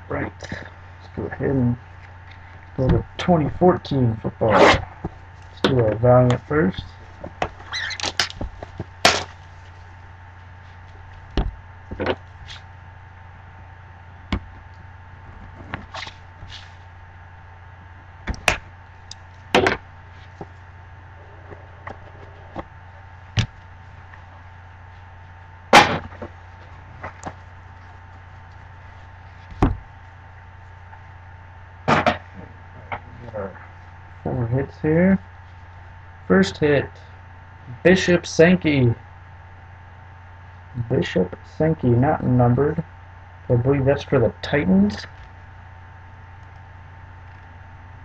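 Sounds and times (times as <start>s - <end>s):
low electrical hum: 0.0s - 48.0s.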